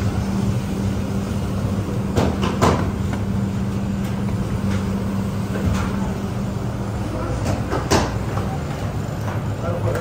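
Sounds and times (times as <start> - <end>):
dough machine humming: 0.0 - 10.0.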